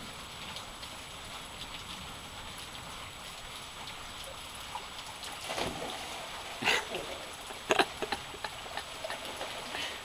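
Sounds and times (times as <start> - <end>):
faint water drips: 0.0 - 10.0.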